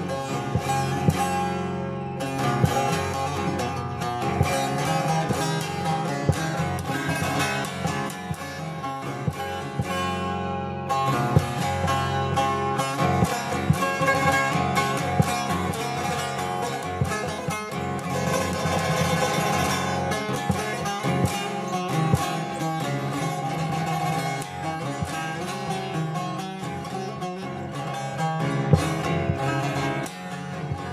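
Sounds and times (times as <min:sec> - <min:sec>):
long-necked lute strummed rapidly: 0:00.0 - 0:30.9.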